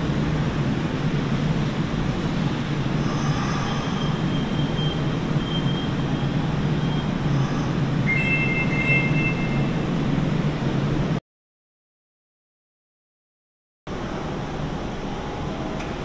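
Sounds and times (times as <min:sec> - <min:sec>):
train interior rumble: 0:00.0 - 0:11.2, 0:13.9 - 0:16.0.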